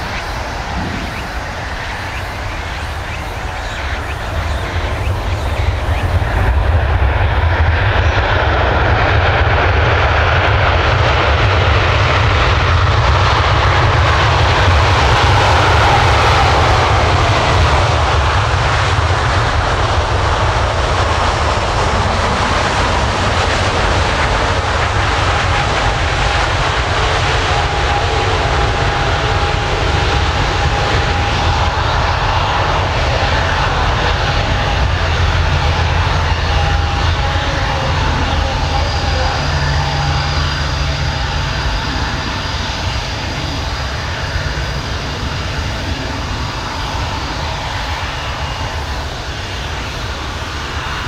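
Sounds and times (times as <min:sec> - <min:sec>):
deep rumble: 0:00.0 - 0:51.0
loud jet noise: 0:00.0 - 0:51.0.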